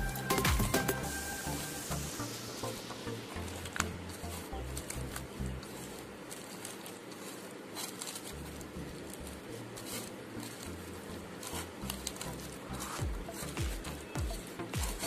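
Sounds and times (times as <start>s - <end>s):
hand squishing onions in bowl: 2.4s - 15.0s.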